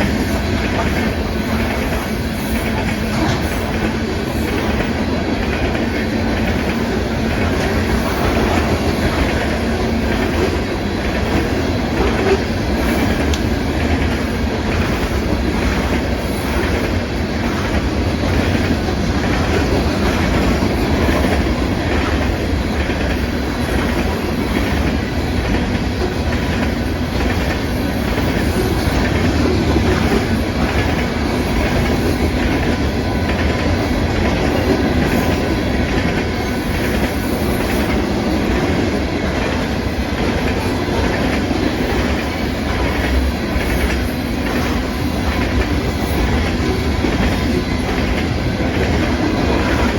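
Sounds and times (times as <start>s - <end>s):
clickety-clack over rail joints: 0.0s - 49.9s
freight train wheels rumbling: 0.0s - 49.9s.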